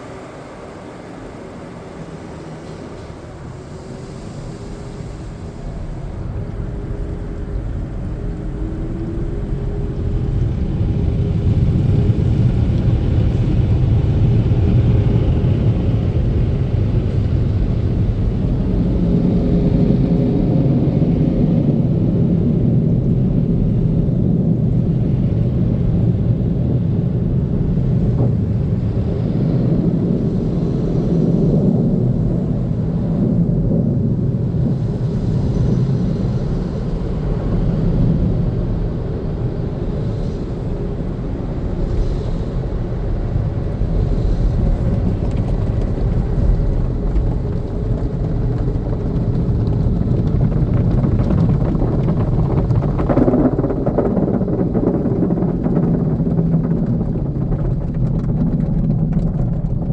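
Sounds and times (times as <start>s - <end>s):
car wash machinery rumble: 0.0s - 59.9s.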